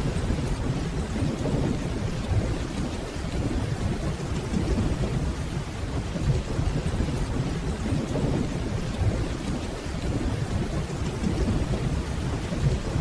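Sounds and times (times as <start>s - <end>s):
distant thunder rumble: 0.0s - 13.0s
steady rainfall: 0.0s - 13.0s.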